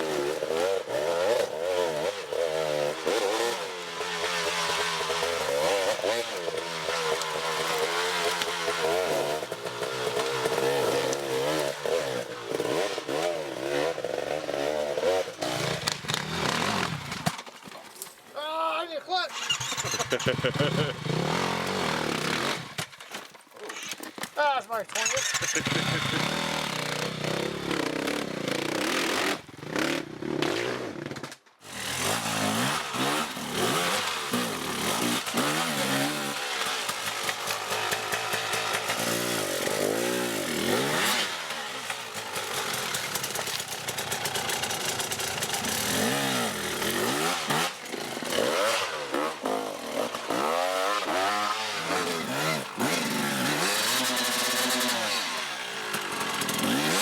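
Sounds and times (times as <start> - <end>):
dirt bike engines revving: 0.0 - 17.4, 19.2 - 22.8, 24.7 - 57.0.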